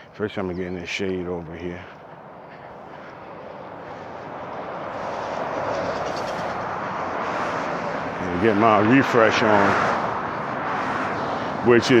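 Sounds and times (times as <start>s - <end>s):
vehicle approaching on road: 0.0s - 12.0s.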